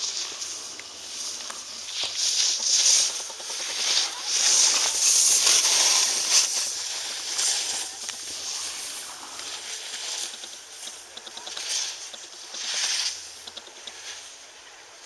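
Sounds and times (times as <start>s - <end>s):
skis scraping on snow: 0.0s - 15.0s.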